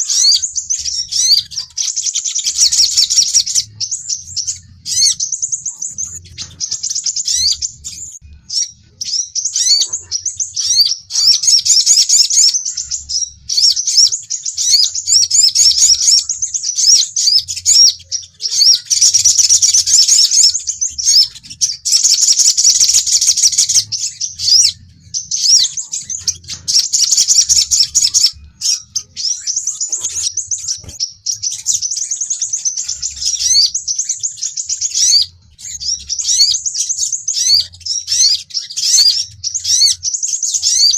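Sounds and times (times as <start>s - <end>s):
sunbirds chirping and trilling: 0.0s - 40.9s.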